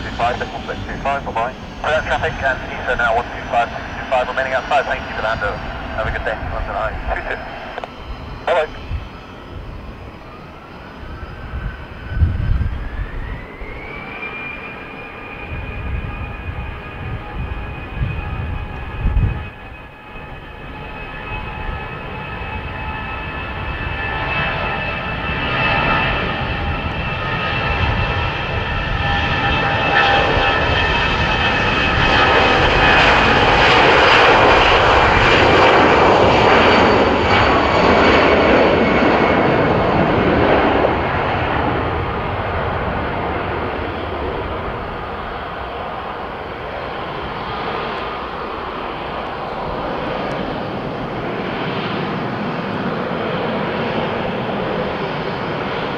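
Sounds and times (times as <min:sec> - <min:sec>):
jet airliner taking off: 0:00.0 - 0:55.9.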